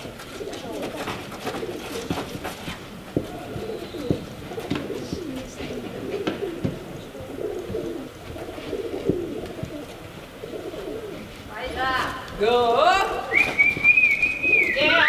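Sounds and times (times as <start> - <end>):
pigeons cooing: 0.0 - 12.0, 13.2 - 15.0.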